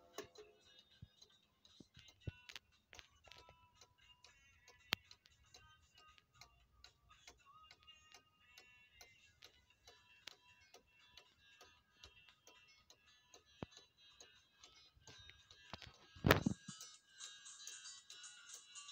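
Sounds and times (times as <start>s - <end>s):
clock ticking: 0.0s - 18.9s.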